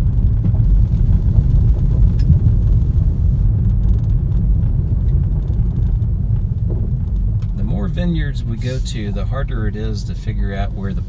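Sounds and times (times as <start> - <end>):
car rolling over gravel: 0.0 - 11.0.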